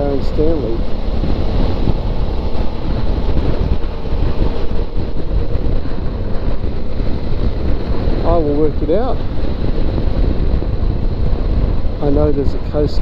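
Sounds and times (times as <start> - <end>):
motorcycle engine running: 0.0 - 12.8
wind noise on microphone: 0.0 - 13.0.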